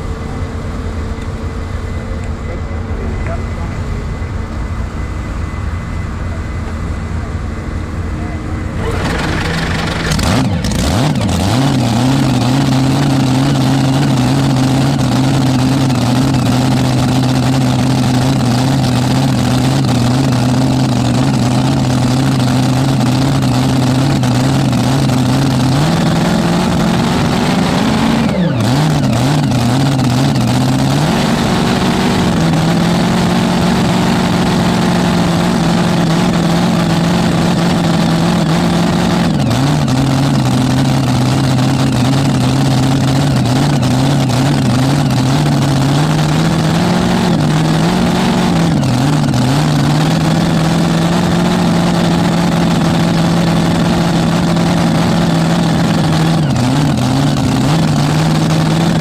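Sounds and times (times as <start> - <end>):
tractor engine idling loudly: 6.0 - 59.0.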